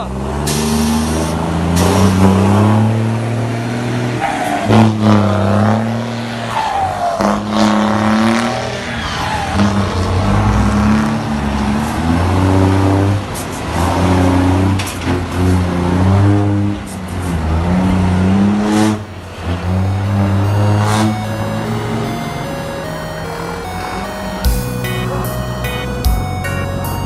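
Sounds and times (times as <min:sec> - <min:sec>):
truck diesel exhaust rumbling: 0:00.0 - 0:27.0.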